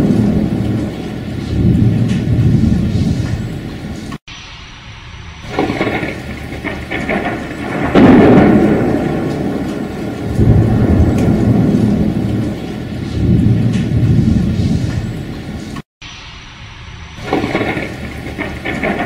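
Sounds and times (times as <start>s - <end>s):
steady rain: 0.0s - 15.8s, 16.6s - 19.0s
thunder crack and rumble: 0.0s - 19.0s.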